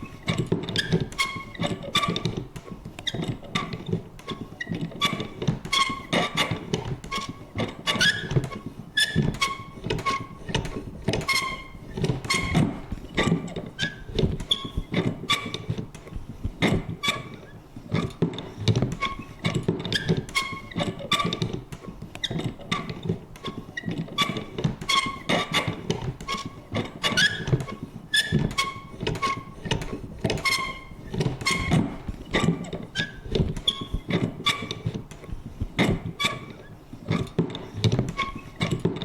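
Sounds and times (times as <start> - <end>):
paper punch clicking and knocking: 0.0 - 17.1, 17.9 - 39.0
paper punch creaking: 0.0 - 39.0.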